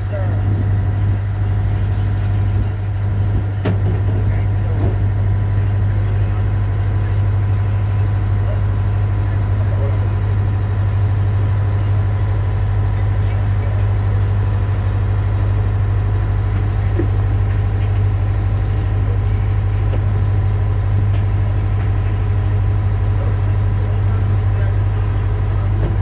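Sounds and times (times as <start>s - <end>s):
boat engine idling: 0.0s - 26.0s.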